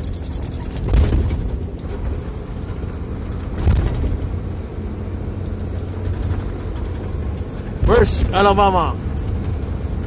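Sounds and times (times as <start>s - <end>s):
diesel truck engine rumble: 0.0s - 10.0s.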